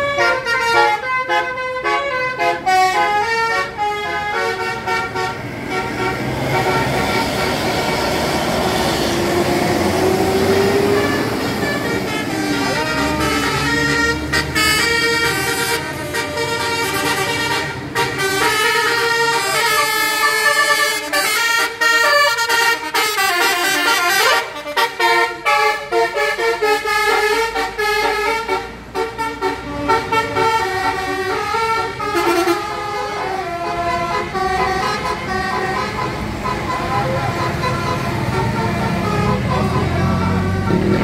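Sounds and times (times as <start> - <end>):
multi-tone air horn melodies: 0.0 - 41.0.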